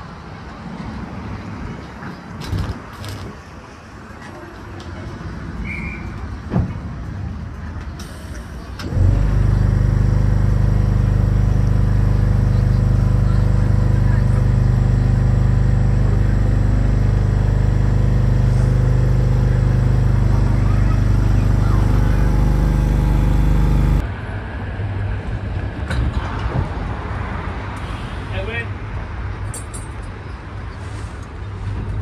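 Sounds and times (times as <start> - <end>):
tram rumble: 0.0 - 32.0.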